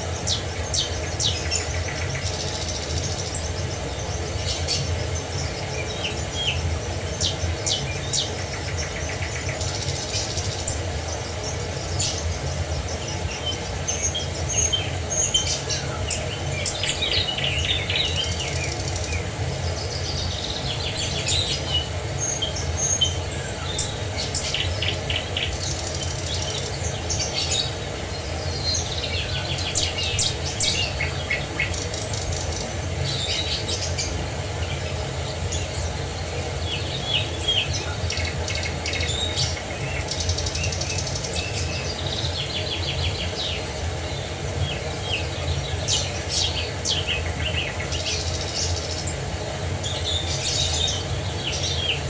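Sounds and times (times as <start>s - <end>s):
songbirds chirping and trilling: 0.0s - 52.0s.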